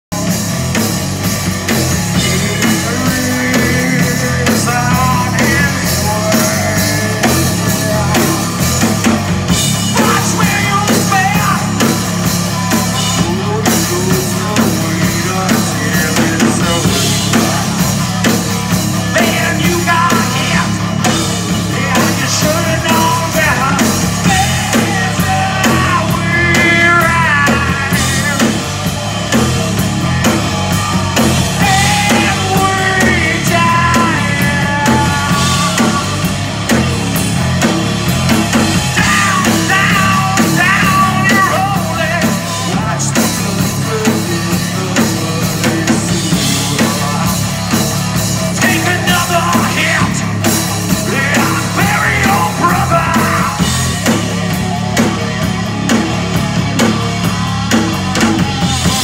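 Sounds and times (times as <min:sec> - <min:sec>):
live rock band playing: 0:00.0 - 0:59.0
male lead singer: 0:00.1 - 0:59.0.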